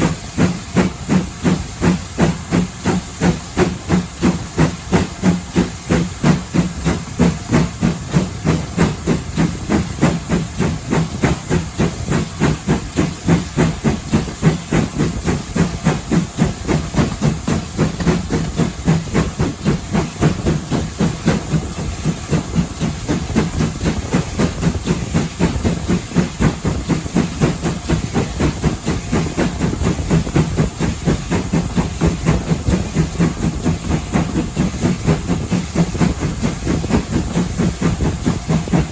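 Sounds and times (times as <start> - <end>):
steam hissing: 0.0 - 38.9
steam locomotive chuffing: 0.0 - 38.9.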